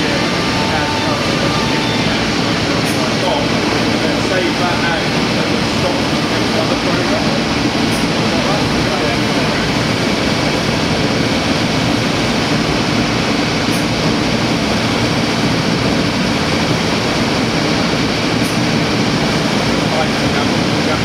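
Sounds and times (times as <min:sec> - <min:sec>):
cnc router machining wood: 0:00.0 - 0:21.0.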